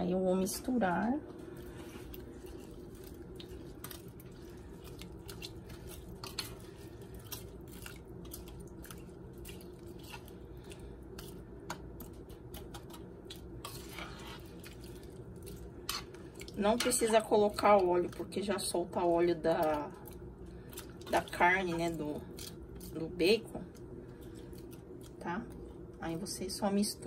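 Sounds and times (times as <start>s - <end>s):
spoon stirring wet rice: 1.5s - 25.1s.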